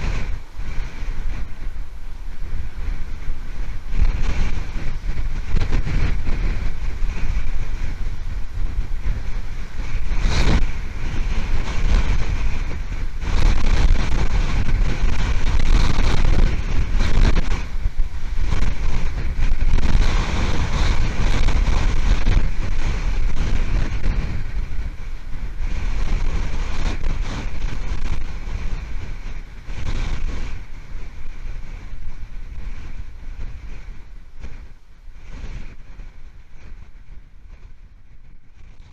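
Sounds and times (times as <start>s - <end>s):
strong wind buffeting microphone: 0.0s - 38.9s.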